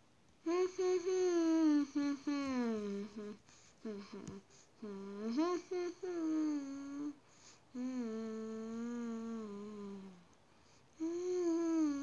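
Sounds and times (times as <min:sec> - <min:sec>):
person humming: 0:00.4 - 0:10.3, 0:11.0 - 0:12.0.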